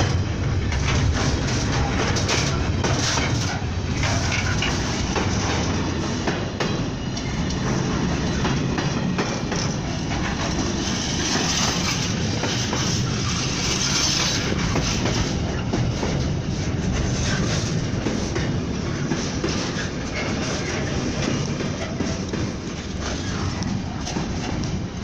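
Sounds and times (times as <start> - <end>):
freight train rumbling past: 0.0 - 25.0
wheels clacking over rail joints: 0.0 - 25.0.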